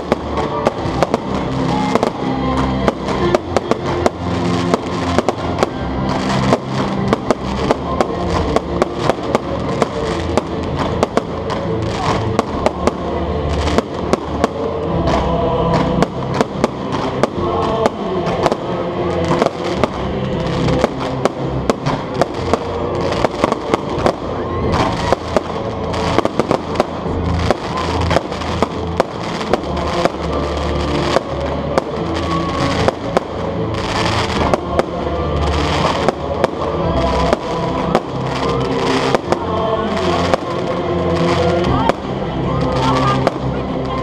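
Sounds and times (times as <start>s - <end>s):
firework bangs and crackles: 0.0s - 44.0s
music playing: 0.0s - 44.0s.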